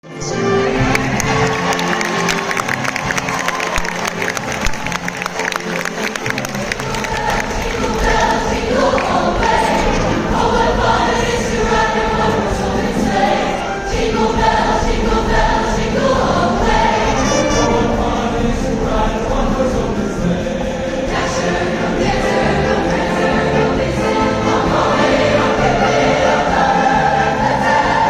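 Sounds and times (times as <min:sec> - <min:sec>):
choirs singing with orchestra: 0:00.0 - 0:28.0.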